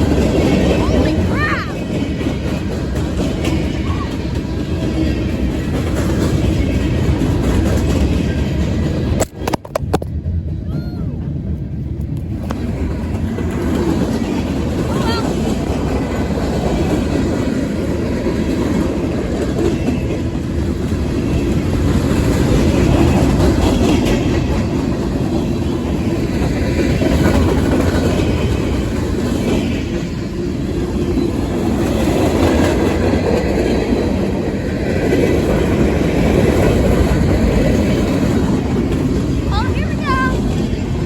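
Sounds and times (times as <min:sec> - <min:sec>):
wheels clacking over rail joints: 0:00.0 - 0:10.6, 0:12.0 - 0:41.0
freight train rumbling past: 0:00.0 - 0:41.0.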